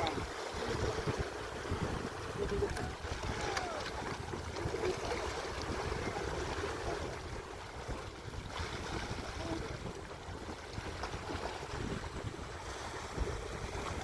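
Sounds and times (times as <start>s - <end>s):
water washing: 0.0s - 14.0s
wind rumbling on microphone: 0.0s - 14.0s.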